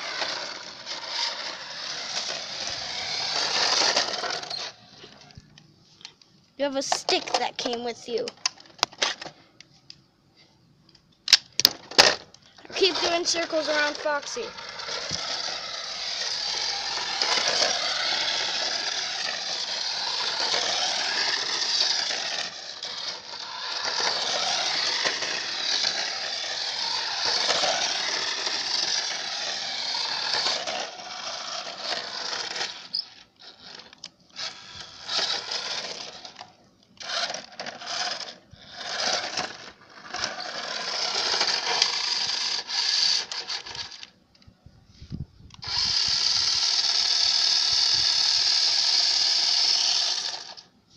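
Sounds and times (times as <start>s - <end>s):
toy car electric motor whining: 0.0s - 5.4s, 6.8s - 9.4s, 11.3s - 44.1s, 45.5s - 50.7s.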